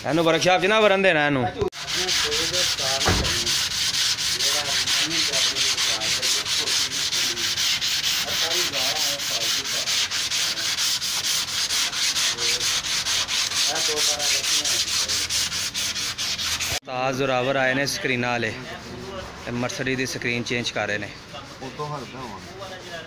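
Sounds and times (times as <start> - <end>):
hand sanding strokes: 1.7 - 16.8, 17.9 - 23.0.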